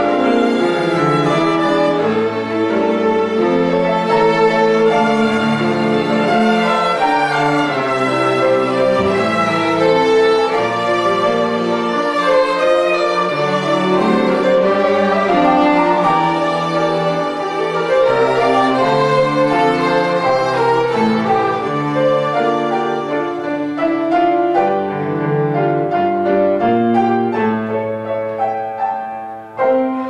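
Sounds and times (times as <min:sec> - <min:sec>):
violin playing slow melody: 0:00.0 - 0:25.4.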